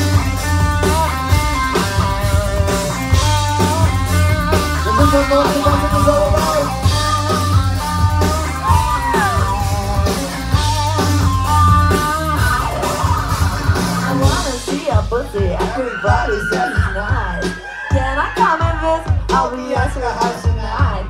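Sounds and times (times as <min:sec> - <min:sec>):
live band music: 0:00.0 - 0:21.0.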